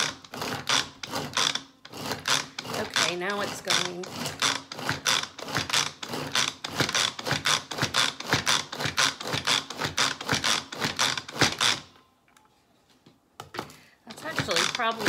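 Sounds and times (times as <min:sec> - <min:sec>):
food processor blades chopping onion: 0:00.0 - 0:11.9, 0:13.6 - 0:15.0.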